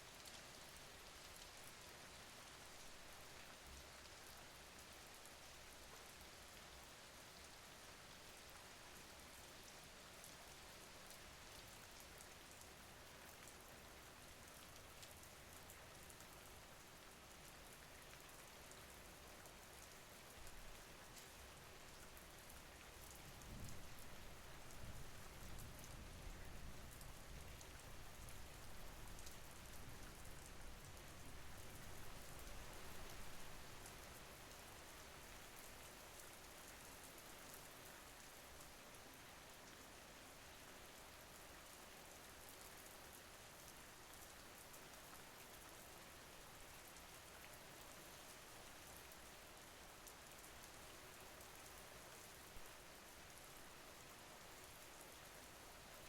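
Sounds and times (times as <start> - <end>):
soft steady rain: 0.0 - 56.0.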